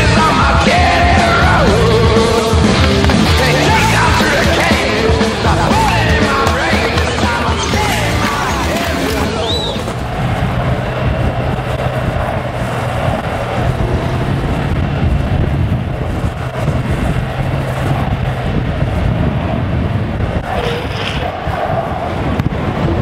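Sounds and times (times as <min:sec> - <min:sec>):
low road rumble: 0:00.0 - 0:23.0
wind on microphone: 0:00.0 - 0:23.0.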